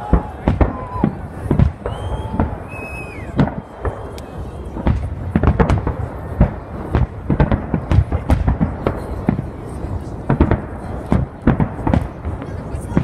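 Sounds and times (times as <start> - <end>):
fireworks booms and crackles: 0.0 - 13.0.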